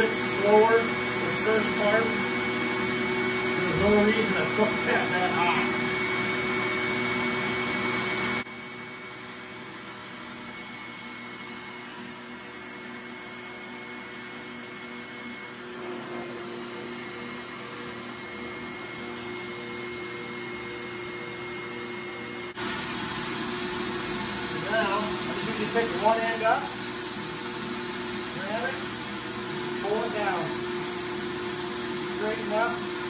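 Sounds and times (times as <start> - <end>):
steady motor hum: 0.0 - 33.0.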